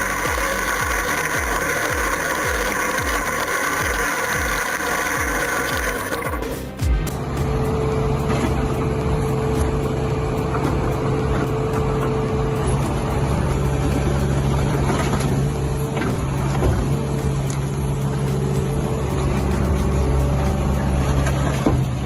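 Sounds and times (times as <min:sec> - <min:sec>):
heavy machine engine droning: 0:00.0 - 0:22.0.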